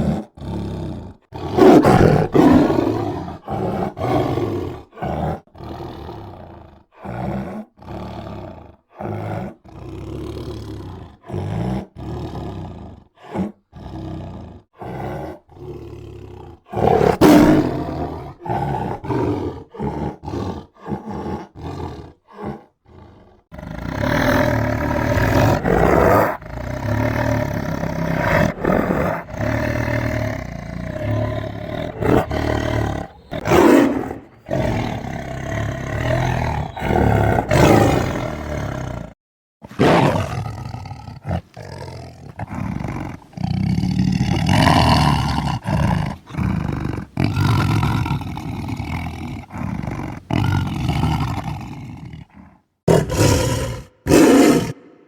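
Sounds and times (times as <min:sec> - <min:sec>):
tiger roaring and snarling: 0:00.0 - 0:55.0.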